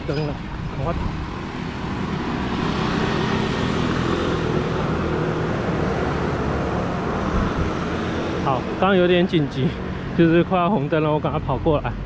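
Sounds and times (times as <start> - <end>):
cars and motorbikes passing: 0.0 - 12.0.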